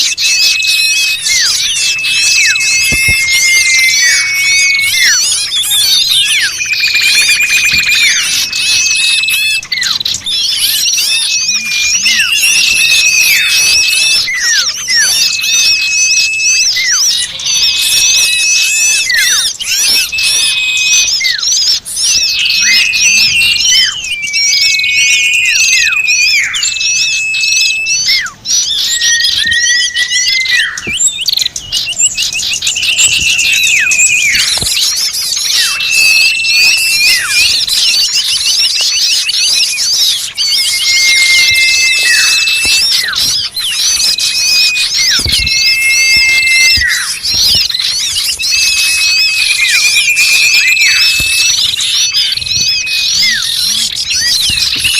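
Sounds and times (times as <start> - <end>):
high falling bird whistles: 0.0 - 54.9
small birds chirping: 0.0 - 54.9.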